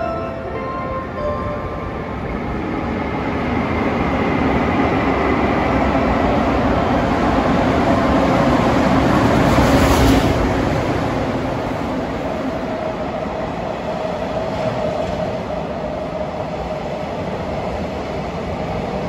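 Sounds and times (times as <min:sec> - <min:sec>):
train wheels rumbling on rail: 0:01.8 - 0:19.0.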